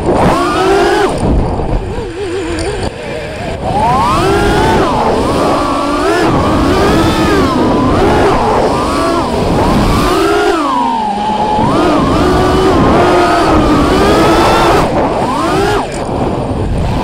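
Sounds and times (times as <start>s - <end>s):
quadcopter motor whine: 0.0s - 17.0s
rushing air rumble: 0.0s - 17.0s.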